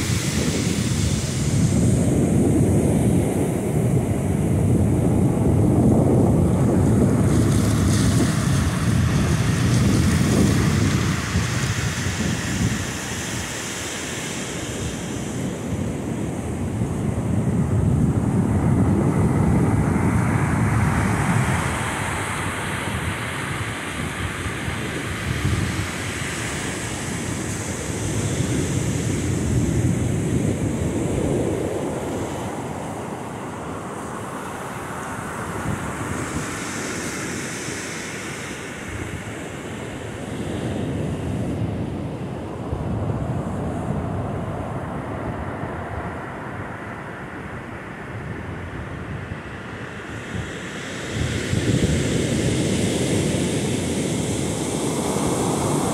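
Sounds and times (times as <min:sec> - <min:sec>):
surf breaking on beach: 0:00.0 - 0:55.9
wind buffeting microphone: 0:00.0 - 0:55.9.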